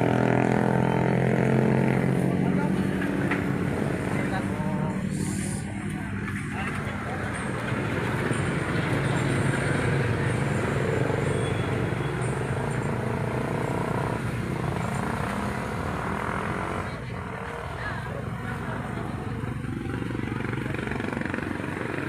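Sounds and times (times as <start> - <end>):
vehicle engine drone: 0.0 - 22.0.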